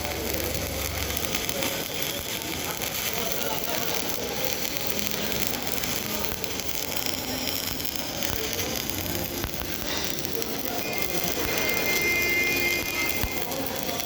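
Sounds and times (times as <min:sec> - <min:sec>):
welding arc crackling hiss: 0:00.0 - 0:14.0.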